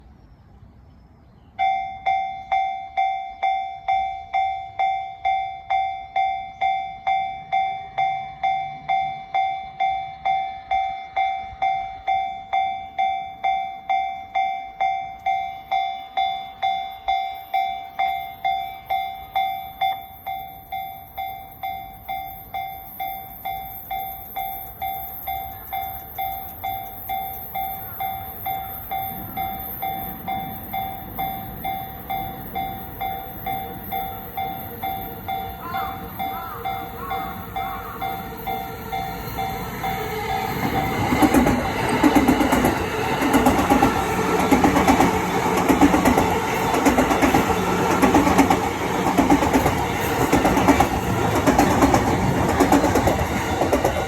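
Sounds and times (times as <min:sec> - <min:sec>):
train approaching: 0:00.0 - 0:54.0
level-crossing warning bell: 0:01.5 - 0:54.0.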